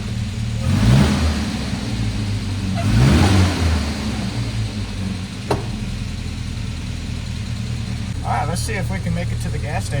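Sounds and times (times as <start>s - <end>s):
car engine revving and idling: 0.0s - 10.0s.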